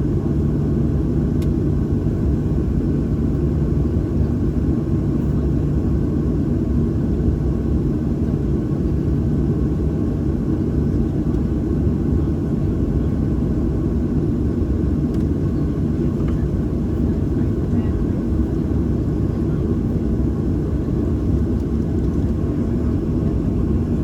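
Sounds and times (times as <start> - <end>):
airplane cabin rumble and hum: 0.0 - 24.0.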